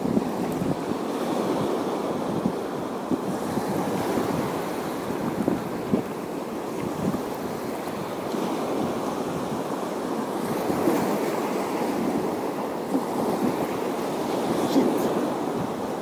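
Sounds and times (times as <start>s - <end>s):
waves washing against shore: 0.0s - 16.0s.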